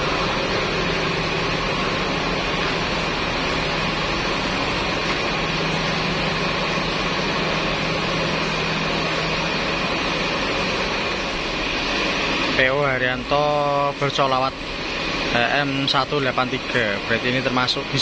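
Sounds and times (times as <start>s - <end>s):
high mechanical whine: 0.0s - 18.0s
low mechanical hum: 0.0s - 18.0s.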